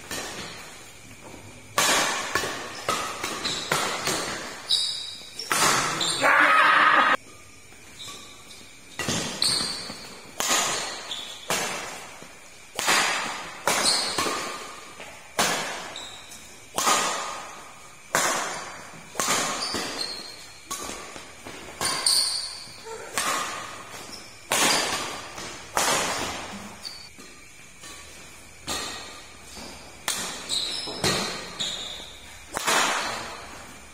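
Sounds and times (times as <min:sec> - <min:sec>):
badminton racket hitting shuttlecock: 0:00.0 - 0:01.0, 0:01.6 - 0:07.2, 0:08.0 - 0:33.9.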